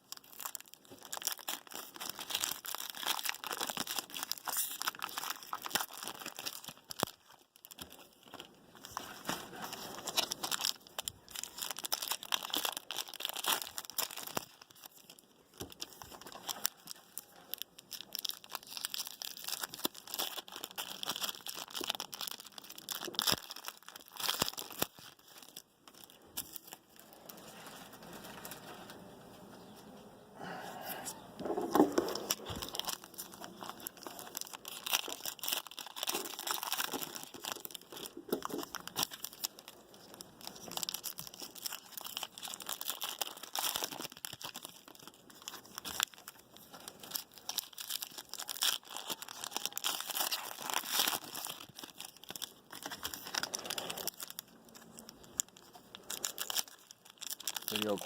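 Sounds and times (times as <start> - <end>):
card pack wrappers crinkling and tearing: 0.0 - 29.1, 31.4 - 58.0.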